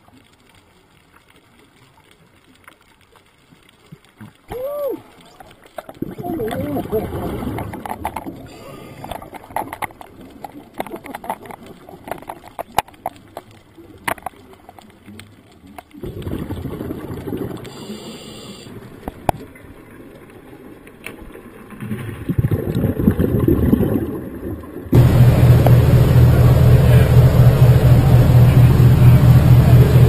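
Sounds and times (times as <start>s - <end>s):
underwater rushing and bubbles: 0.0s - 30.0s.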